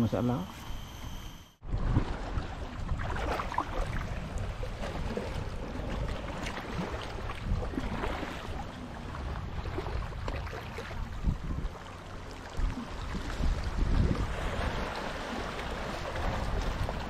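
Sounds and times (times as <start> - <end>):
seawater splashing around rocks: 1.6 - 17.0
wind rumbling on microphone: 1.6 - 17.0.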